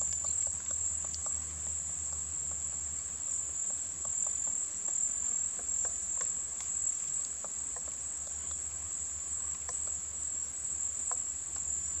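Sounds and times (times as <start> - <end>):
insect trill: 0.0 - 12.0.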